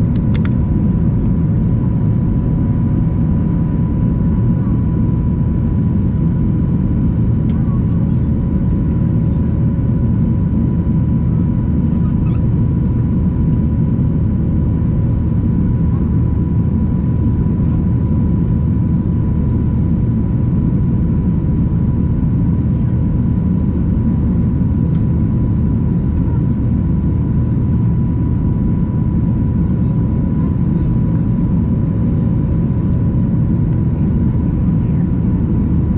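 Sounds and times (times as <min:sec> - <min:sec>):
jet engine and airflow rumble: 0:00.0 - 0:35.9.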